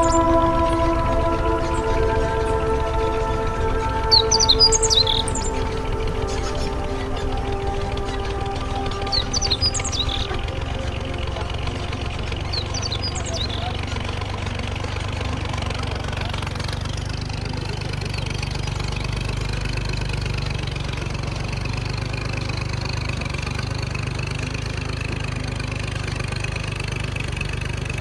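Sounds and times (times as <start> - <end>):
tractor engine throbbing: 0.0 - 28.0.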